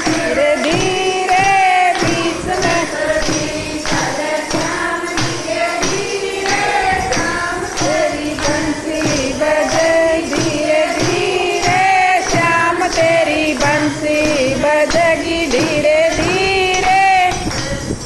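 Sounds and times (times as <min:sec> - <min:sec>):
jingling hand percussion: 0:00.0 - 0:18.0
women singing devotional song: 0:00.0 - 0:18.0.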